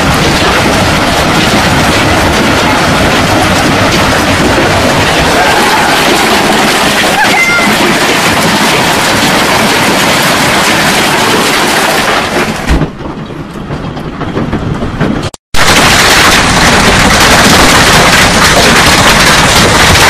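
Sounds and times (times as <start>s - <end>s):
hail falling hard: 0.0s - 13.2s, 15.6s - 20.0s
rain downpour: 0.0s - 20.0s.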